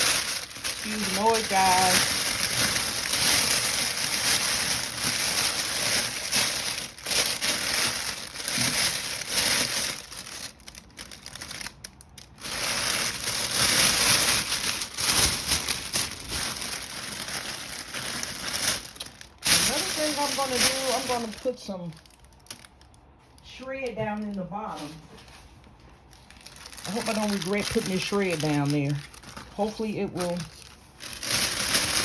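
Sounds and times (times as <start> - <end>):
cellophane bag crinkling: 0.0 - 23.4, 24.1 - 32.0.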